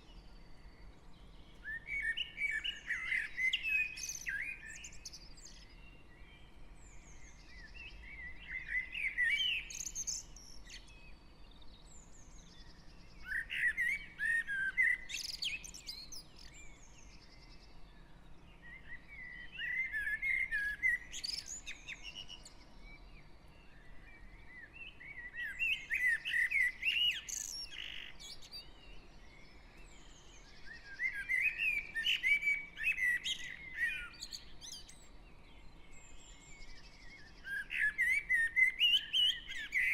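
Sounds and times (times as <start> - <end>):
songbird warbling song: 0.0 - 39.9.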